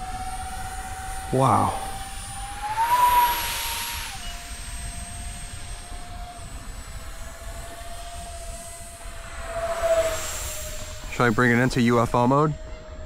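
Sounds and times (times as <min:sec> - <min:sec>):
rush of air: 0:00.0 - 0:12.1
electric ducted fan whining: 0:00.0 - 0:13.0.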